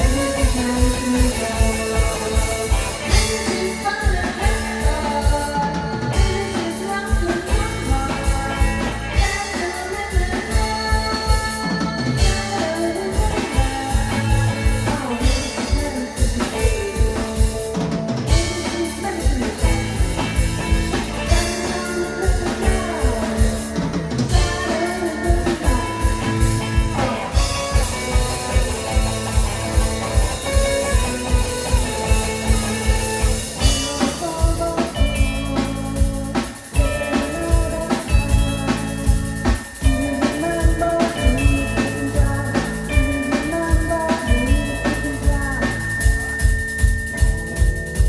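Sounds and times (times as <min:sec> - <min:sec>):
drums keeping a steady beat: 0:00.0 - 0:48.0
live band playing: 0:00.0 - 0:48.0.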